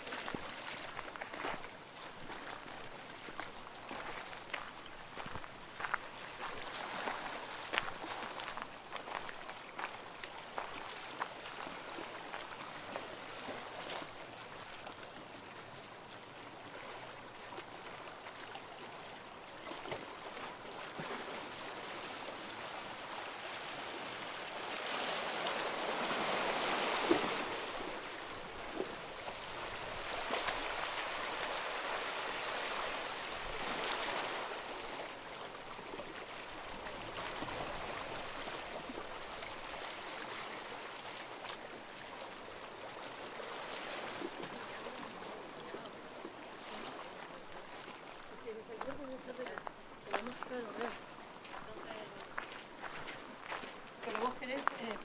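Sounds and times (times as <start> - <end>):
small waves washing against shore: 0.0 - 55.0.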